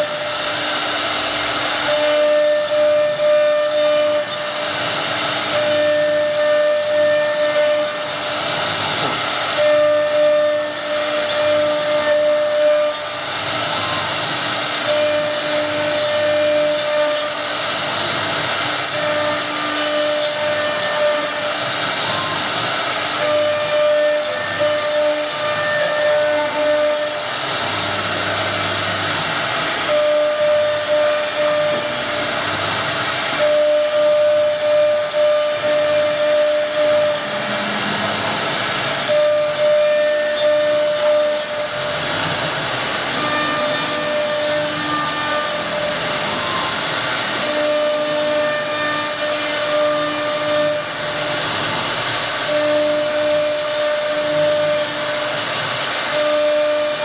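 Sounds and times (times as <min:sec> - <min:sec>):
wood router spindle hissing: 0:00.0 - 0:57.0.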